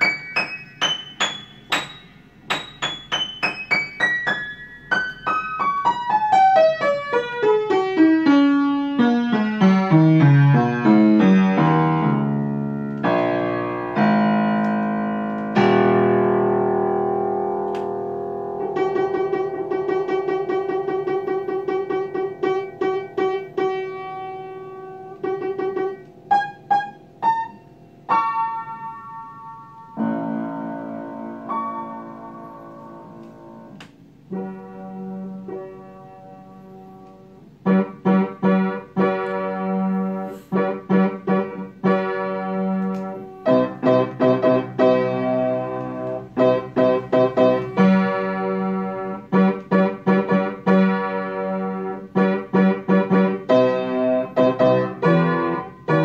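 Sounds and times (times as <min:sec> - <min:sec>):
upright piano playing: 0:00.0 - 0:56.0.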